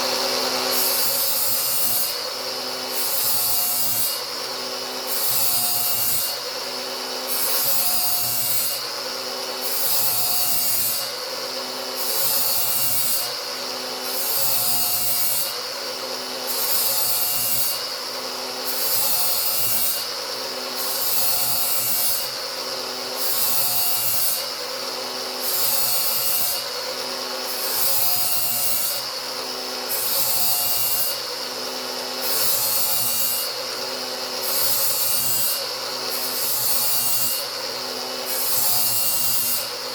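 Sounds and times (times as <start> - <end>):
angle grinder grinding steel: 0.0 - 18.0, 18.6 - 39.9.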